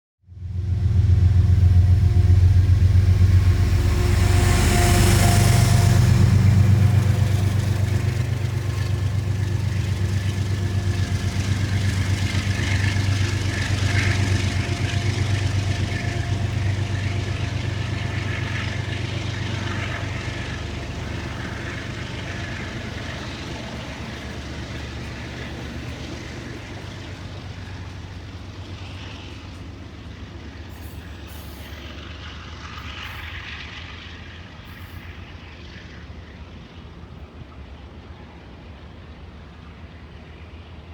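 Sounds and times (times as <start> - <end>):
passenger train engine rumble: 0.2 - 40.9.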